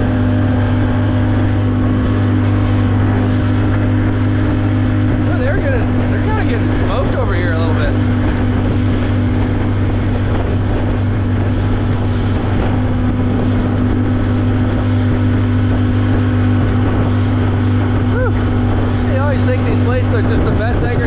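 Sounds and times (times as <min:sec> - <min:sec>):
hull rushing through water: 0:00.0 - 0:21.0
outboard motor humming: 0:00.0 - 0:21.0.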